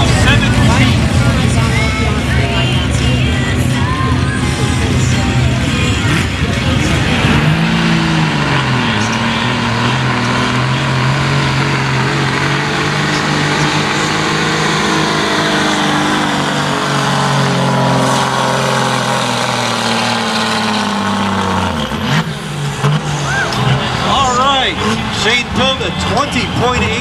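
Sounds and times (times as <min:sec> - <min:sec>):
truck engine running under load: 0:00.0 - 0:27.0.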